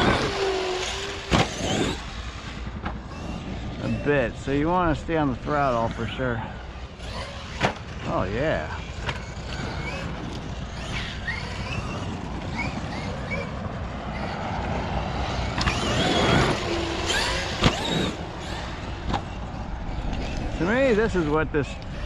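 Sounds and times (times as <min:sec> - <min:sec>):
rc truck electric motor whining: 0:00.0 - 0:04.1, 0:06.7 - 0:22.0.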